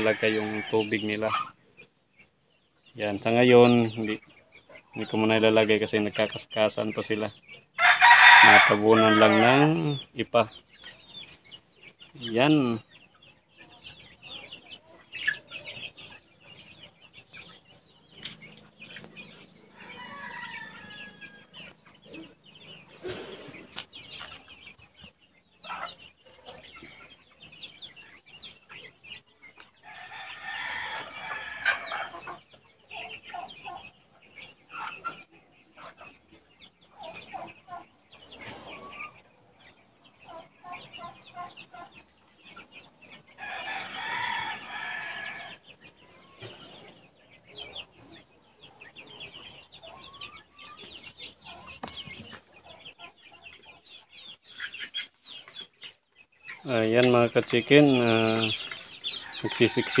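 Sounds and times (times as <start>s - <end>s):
chicks peeping and clucking: 0.0s - 60.0s.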